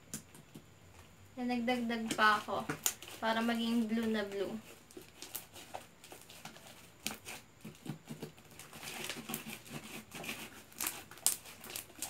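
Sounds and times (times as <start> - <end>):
sticky slime crackling: 1.7 - 12.0.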